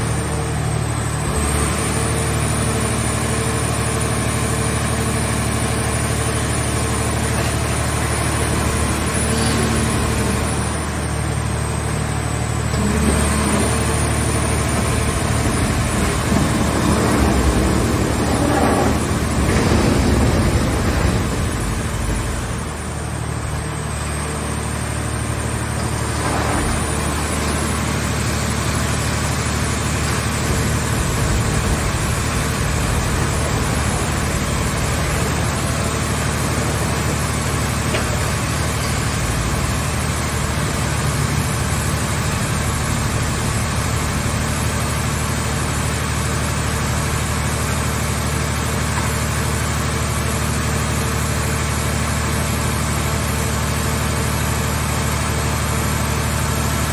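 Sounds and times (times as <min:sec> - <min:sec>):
scrap baler machine humming: 0:00.0 - 0:56.9.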